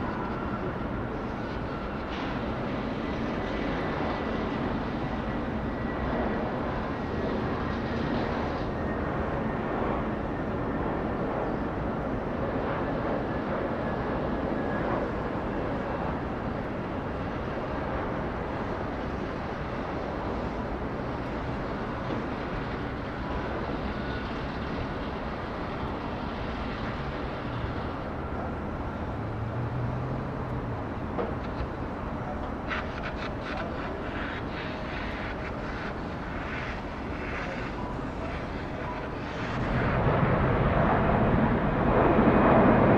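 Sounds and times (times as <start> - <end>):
jet engine roar: 0.0 - 42.9.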